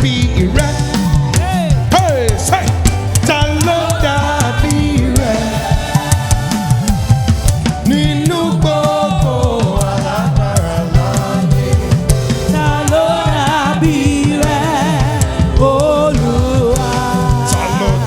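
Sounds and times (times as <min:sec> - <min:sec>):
band with drums and bass: 0:00.0 - 0:18.0
choir singing: 0:03.3 - 0:18.0.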